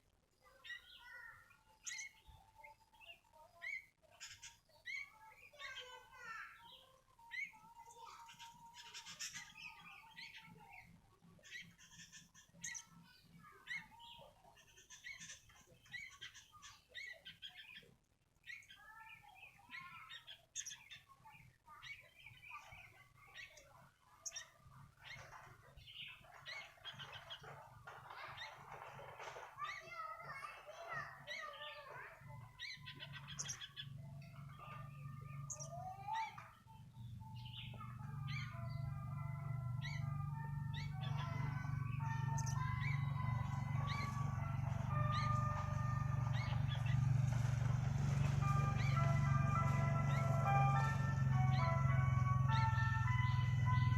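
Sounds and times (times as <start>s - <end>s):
bird chirping and singing: 0.4s - 53.9s.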